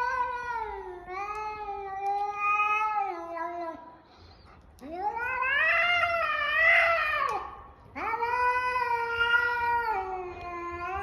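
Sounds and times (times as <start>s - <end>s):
cat yowling: 0.0s - 3.8s, 4.8s - 11.0s.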